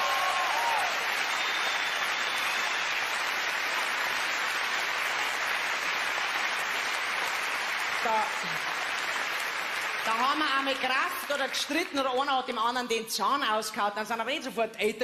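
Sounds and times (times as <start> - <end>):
large audience applauding: 0.0 - 12.2.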